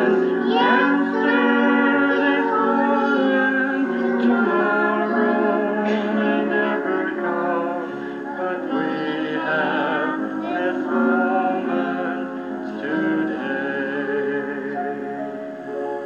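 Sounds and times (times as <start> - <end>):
slow song with singing: 0.0 - 16.0.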